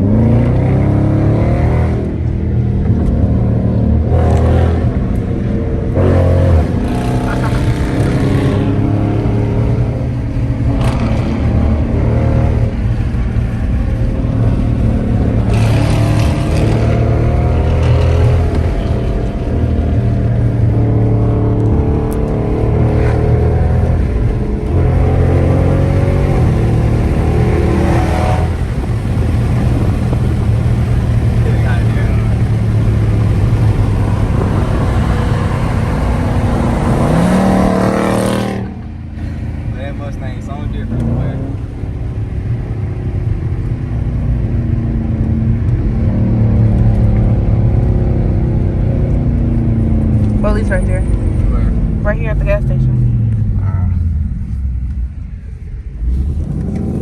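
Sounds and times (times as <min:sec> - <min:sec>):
car engine rumbling: 0:00.0 - 0:57.0
road and tyre noise: 0:00.0 - 0:57.0.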